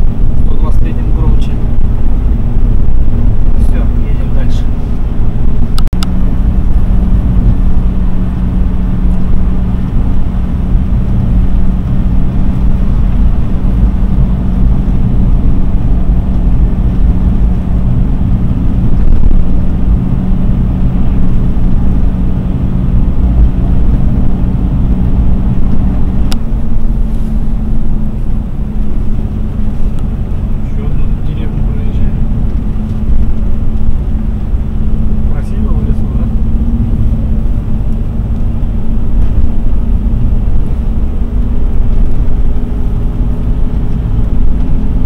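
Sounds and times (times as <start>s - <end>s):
car engine hum: 0.0s - 45.0s
tyre and road rumble: 0.0s - 45.0s.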